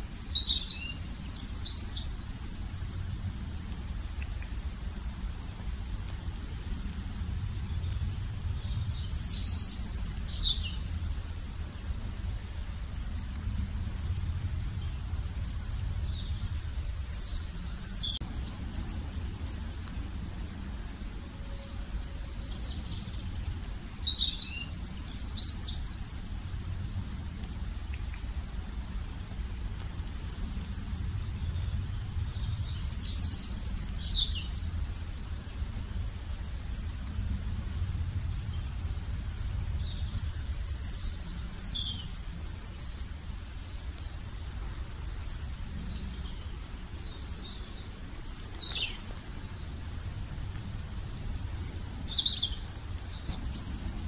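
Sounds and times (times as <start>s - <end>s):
low steady rumble: 0.0s - 54.0s
songbirds chirping: 0.0s - 54.0s.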